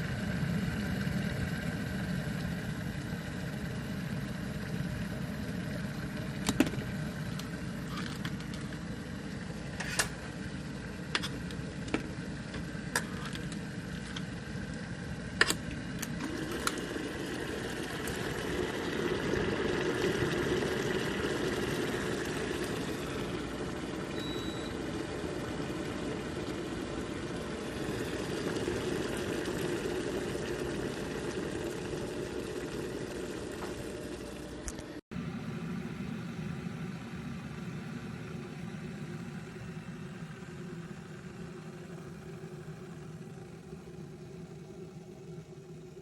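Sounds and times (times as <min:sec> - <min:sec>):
electric kettle heating water: 0:00.0 - 0:46.0.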